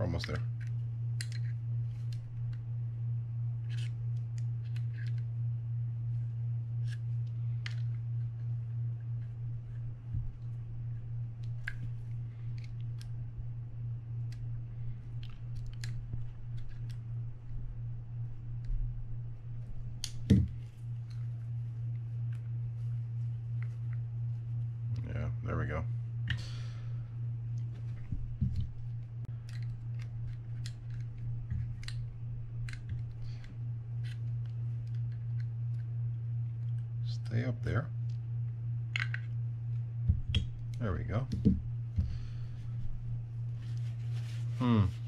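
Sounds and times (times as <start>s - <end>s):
low hum: 0.0s - 45.0s.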